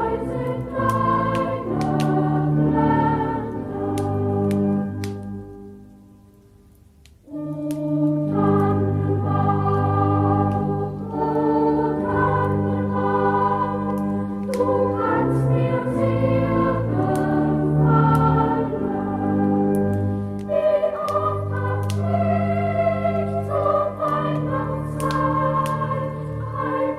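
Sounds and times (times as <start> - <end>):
choir singing: 0.0 - 5.1, 8.1 - 26.9.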